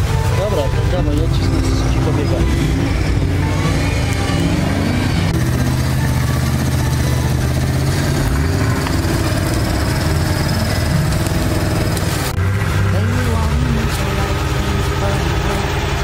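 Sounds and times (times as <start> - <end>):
off-road vehicle engine running hard: 0.0 - 16.0.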